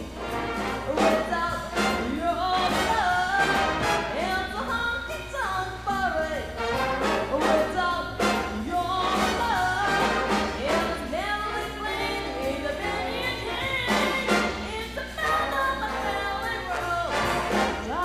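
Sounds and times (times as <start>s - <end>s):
jazz big band playing swing: 0.0s - 18.0s
woman singing: 0.7s - 18.0s.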